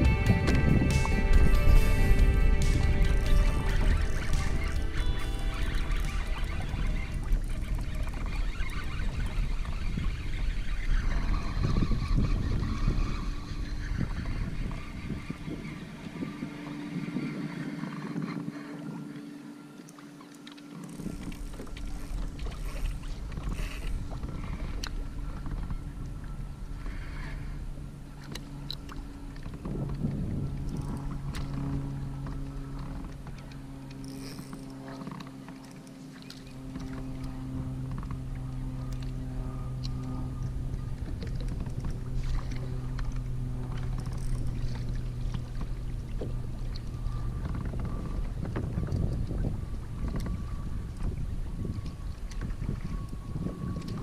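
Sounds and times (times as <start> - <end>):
steady low rumble: 0.0 - 16.7, 21.0 - 54.0
wind buffeting microphone: 0.0 - 19.5, 20.7 - 35.5, 36.5 - 54.0
steady low hum: 0.0 - 54.0
water sloshing against kayak hull: 0.0 - 54.0.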